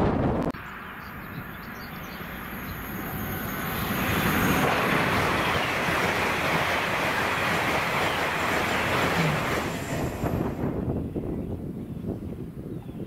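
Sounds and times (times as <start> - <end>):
train passing at speed: 0.6 - 11.2.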